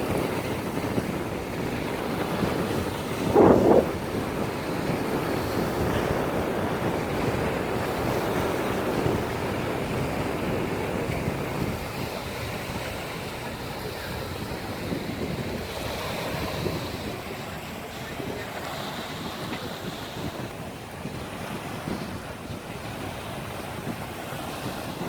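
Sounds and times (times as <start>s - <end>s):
small waves washing ashore: 0.0s - 25.0s
wind rumbling on microphone: 0.0s - 25.0s.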